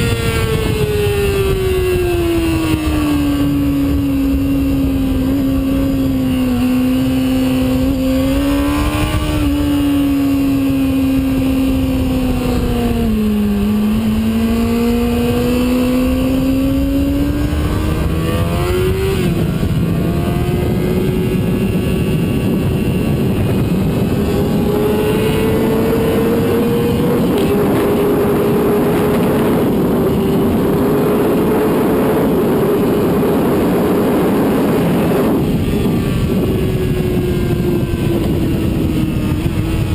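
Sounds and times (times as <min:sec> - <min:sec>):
sport bike engine: 0:00.0 - 0:39.9
wind noise: 0:00.0 - 0:39.9.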